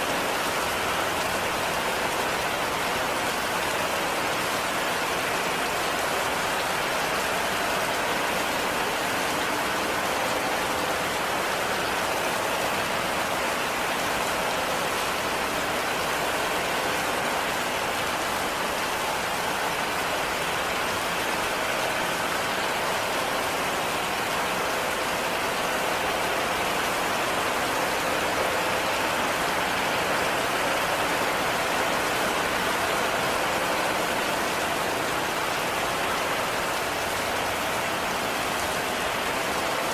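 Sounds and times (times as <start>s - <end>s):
heavy rain on a cabin: 0.0s - 39.9s.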